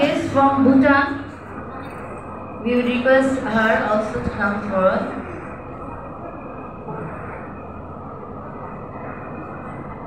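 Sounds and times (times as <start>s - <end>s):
crowded hall rumble: 0.0s - 10.0s.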